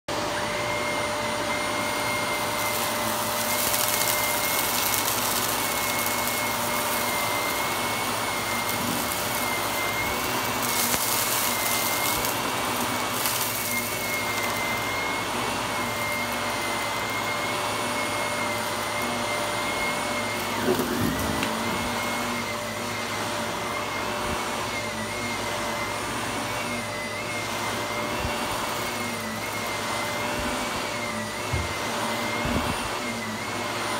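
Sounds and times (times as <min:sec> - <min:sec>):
vacuum cleaner running on carpet: 0:00.1 - 0:33.9.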